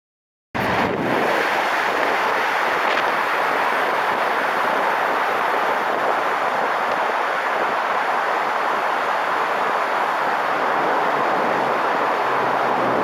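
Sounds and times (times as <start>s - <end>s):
car tyre and traffic noise: 0.6s - 13.0s
wind on microphone: 0.6s - 13.0s.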